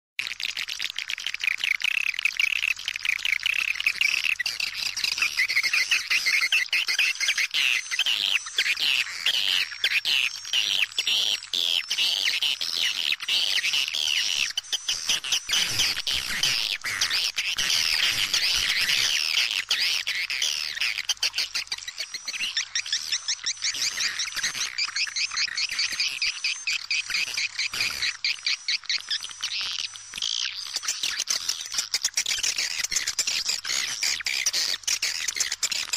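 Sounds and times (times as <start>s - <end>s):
swiftlets twittering: 0.4s - 35.9s.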